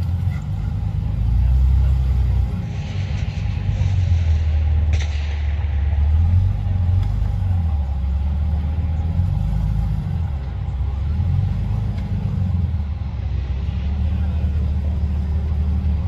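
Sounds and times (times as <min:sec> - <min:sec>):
engine rumbling at low revs: 0:00.0 - 0:16.0.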